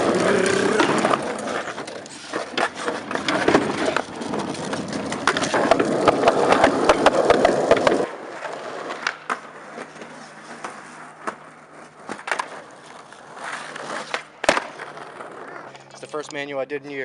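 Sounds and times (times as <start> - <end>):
skateboard wheels rolling on pavement: 0.0 - 16.4.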